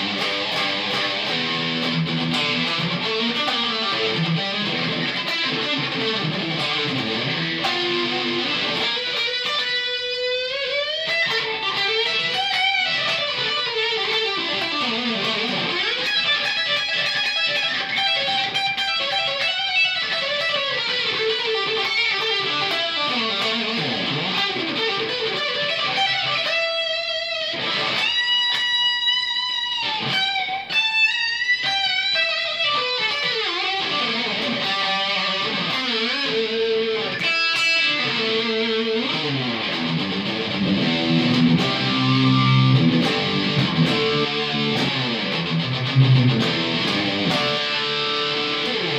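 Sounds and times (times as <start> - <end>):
distorted electric guitar solo: 0.0 - 48.9.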